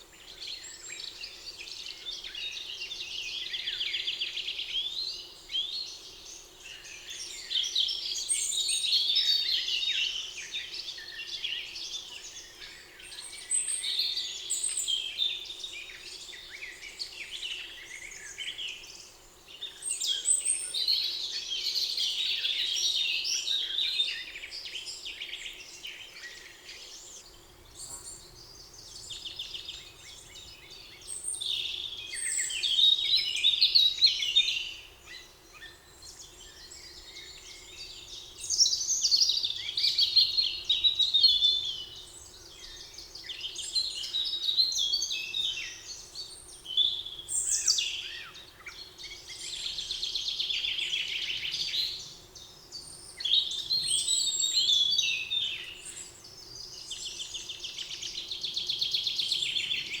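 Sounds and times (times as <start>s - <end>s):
songbirds singing: 0.0s - 60.0s.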